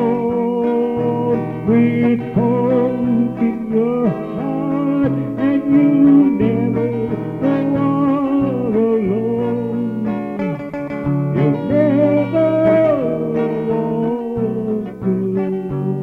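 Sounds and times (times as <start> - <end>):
slow country ballad on guitar: 0.0 - 16.0.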